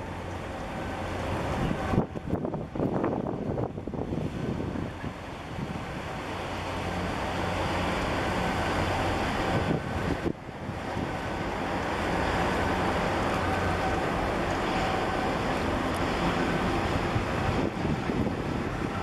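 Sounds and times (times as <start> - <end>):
propeller wash churning: 0.0 - 19.0
ship engine hum: 0.0 - 19.0
wind noise on microphone: 1.0 - 19.0.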